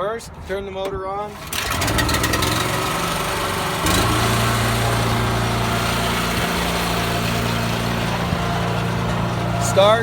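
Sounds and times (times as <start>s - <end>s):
small gas engine running: 1.3s - 10.0s.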